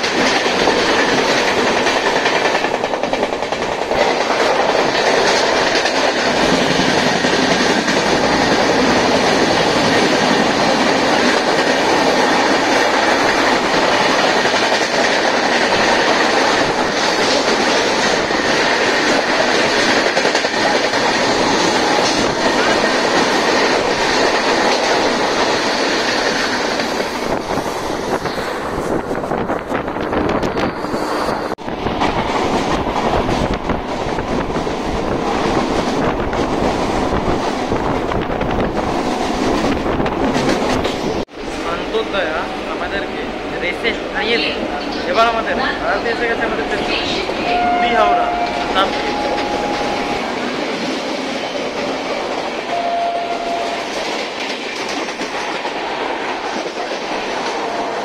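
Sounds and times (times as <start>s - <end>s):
train rattle and rumble: 0.0s - 58.0s.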